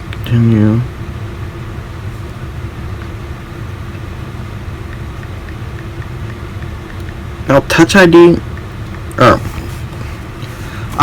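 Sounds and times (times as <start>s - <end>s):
low mechanical hum of machine: 0.0s - 11.0s.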